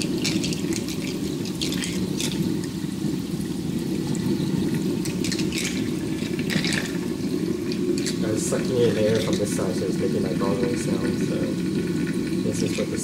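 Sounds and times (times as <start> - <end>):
water pump churning: 0.0 - 13.0.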